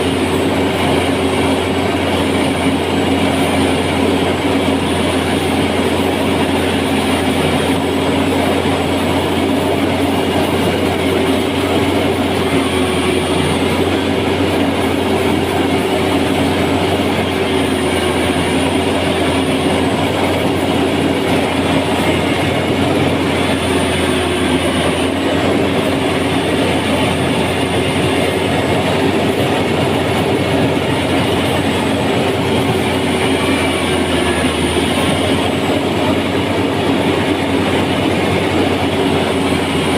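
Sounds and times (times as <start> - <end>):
machine engine drone: 0.0 - 39.9.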